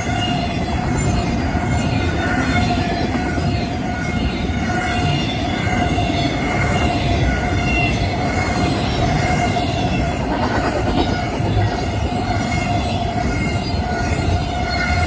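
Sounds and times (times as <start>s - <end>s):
freight train wheels rumbling: 0.0s - 15.0s
wheels squealing on rail: 0.0s - 15.0s.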